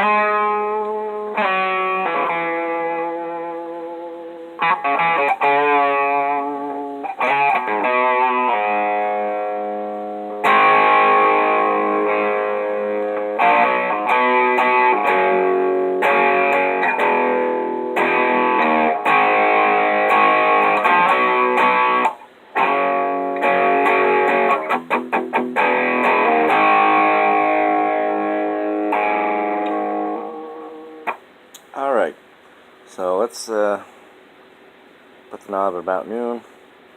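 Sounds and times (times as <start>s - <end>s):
bright electric guitar: 0.0s - 31.8s.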